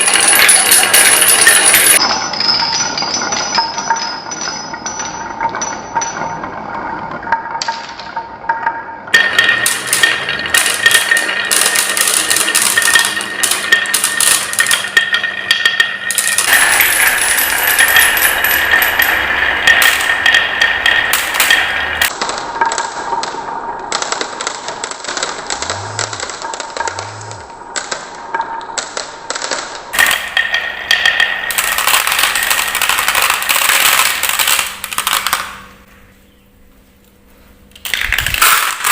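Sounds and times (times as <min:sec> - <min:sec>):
marbles clattering down wooden run: 0:00.0 - 0:35.9, 0:37.8 - 0:38.9.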